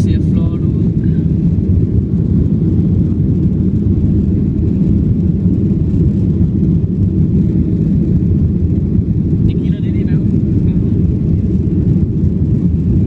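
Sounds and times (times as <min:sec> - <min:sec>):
airliner engines roaring: 0:00.0 - 0:13.0.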